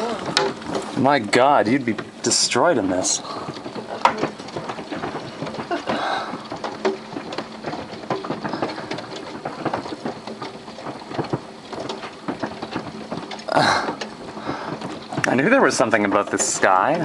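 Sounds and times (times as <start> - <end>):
hailstones clattering: 0.0 - 17.0
steady rushing hiss: 0.0 - 17.0.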